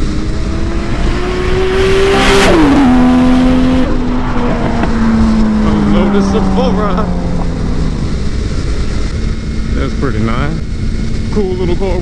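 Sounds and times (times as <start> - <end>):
motorcycle engine accelerating: 0.0 - 12.0
wind rushing over microphone: 0.0 - 12.0.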